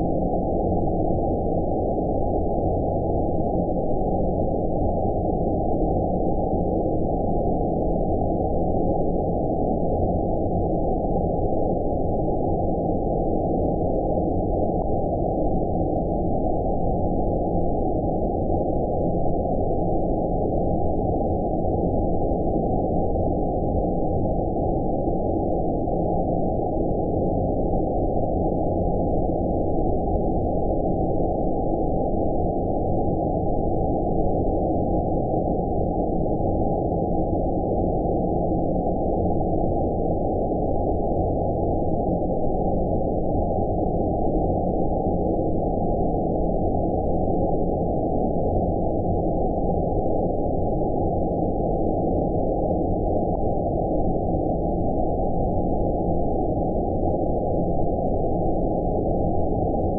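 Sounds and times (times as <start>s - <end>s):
low filtered white noise: 0.0s - 59.9s.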